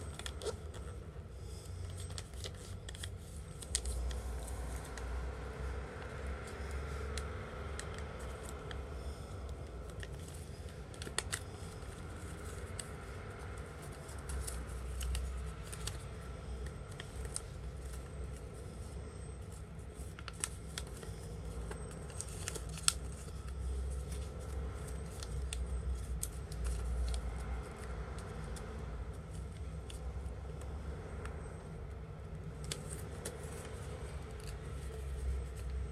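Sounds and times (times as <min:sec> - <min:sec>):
paper crinkling and creasing: 0:00.0 - 0:35.9.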